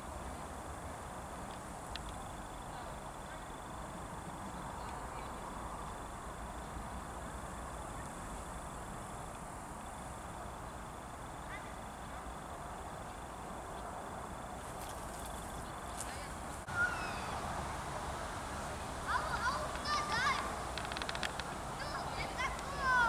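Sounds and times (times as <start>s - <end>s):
low river hiss: 0.0s - 23.0s.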